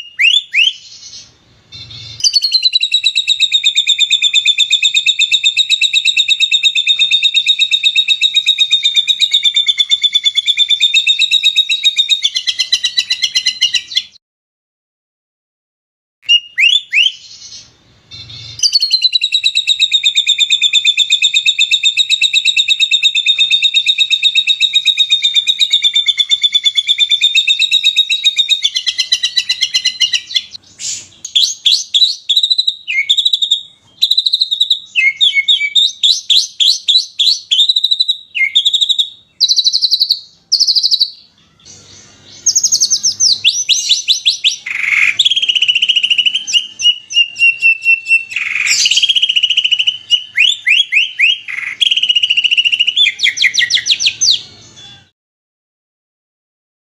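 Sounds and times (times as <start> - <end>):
songbird rapid trill and chirps: 0.0 - 14.2, 16.3 - 55.1.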